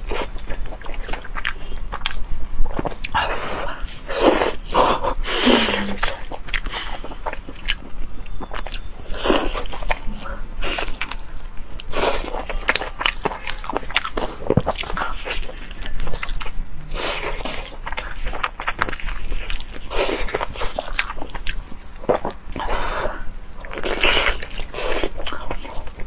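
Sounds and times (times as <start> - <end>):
wet chewing and lip-smacking: 0.0 - 26.0.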